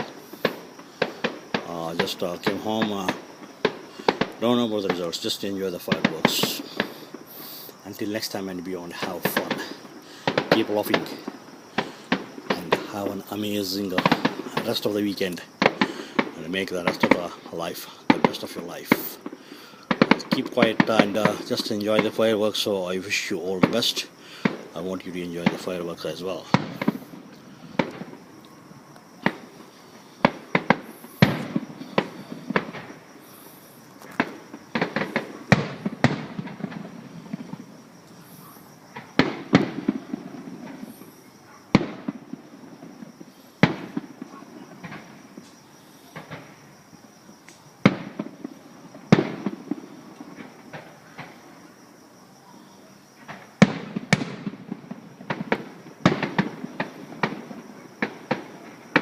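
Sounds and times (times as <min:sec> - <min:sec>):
fireworks exploding: 0:00.0 - 0:52.0, 0:52.8 - 0:59.0
fireworks crackling: 0:00.0 - 0:59.0.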